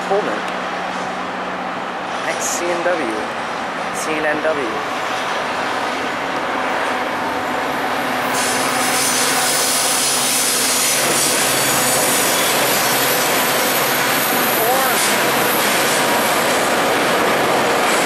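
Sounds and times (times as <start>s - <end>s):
diesel train rumbling: 0.0s - 18.0s.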